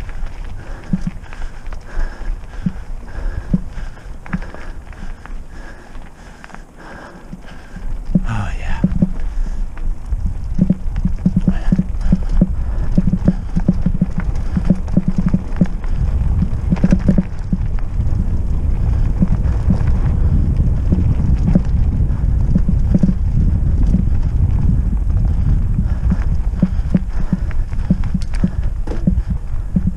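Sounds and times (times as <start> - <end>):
bike knocking and rattling: 0.0 - 29.9
low rumble: 0.0 - 29.9.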